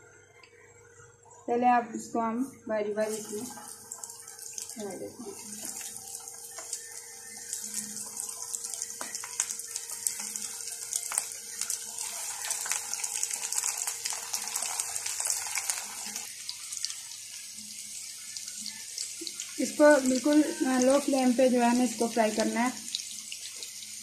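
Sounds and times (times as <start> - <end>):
food deep-frying in hot oil: 3.0 - 24.0.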